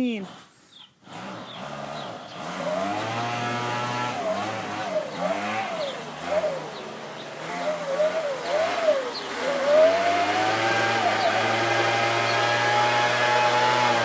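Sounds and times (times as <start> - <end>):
leaf blower running: 0.0 - 14.0.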